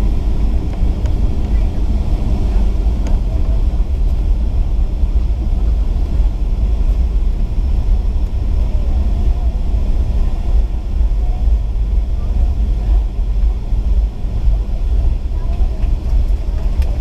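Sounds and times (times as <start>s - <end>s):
airliner rolling on ground: 0.0s - 17.0s.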